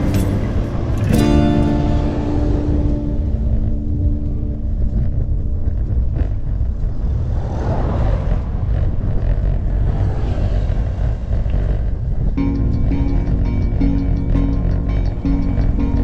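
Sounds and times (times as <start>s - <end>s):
road noise: 0.0s - 16.0s
wind rumble on microphone: 0.0s - 16.0s.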